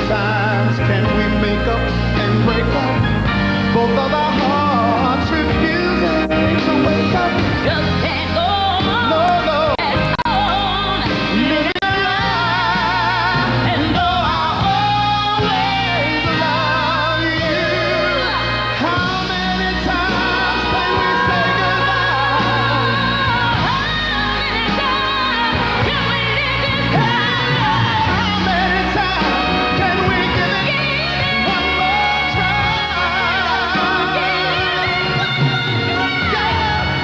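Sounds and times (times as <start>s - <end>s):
band accompaniment: 0.0s - 37.0s
singer with vibrato: 0.0s - 37.0s.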